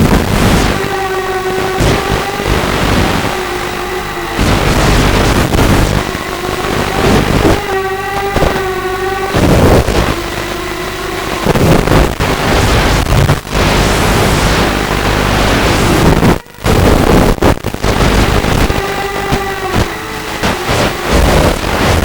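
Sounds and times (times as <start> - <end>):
quadcopter wind rush: 0.0 - 22.0.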